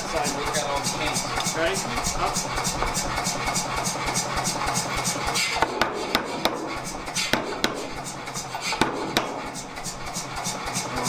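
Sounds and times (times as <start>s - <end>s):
power hammer striking steel: 0.8s - 10.9s.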